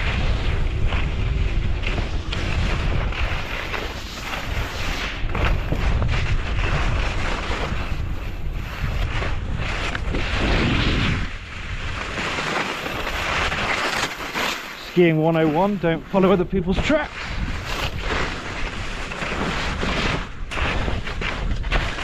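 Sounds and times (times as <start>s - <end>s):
wind buffeting microphone: 0.0s - 12.2s, 15.3s - 22.0s
skis scraping on snow: 0.0s - 22.0s.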